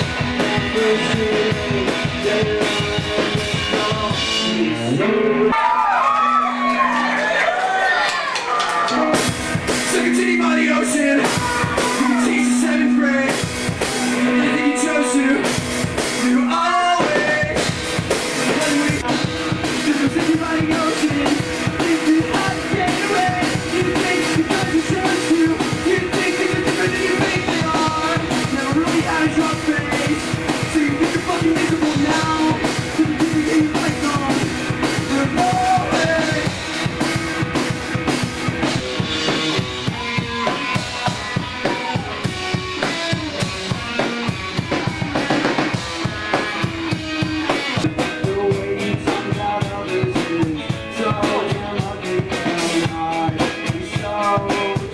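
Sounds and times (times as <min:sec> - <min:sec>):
drum kit beat: 0:00.0 - 0:06.2, 0:08.2 - 0:54.9
person singing: 0:00.0 - 0:07.1, 0:09.8 - 0:37.0, 0:38.6 - 0:54.9
rock band playing: 0:00.0 - 0:54.9.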